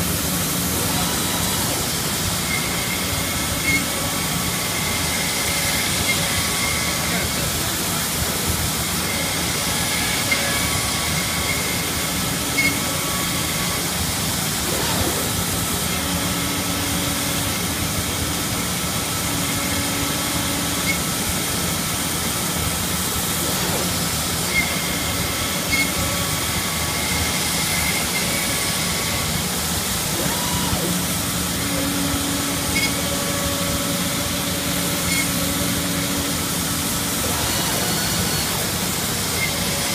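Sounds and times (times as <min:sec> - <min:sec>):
cnc router running: 0:00.0 - 0:39.9.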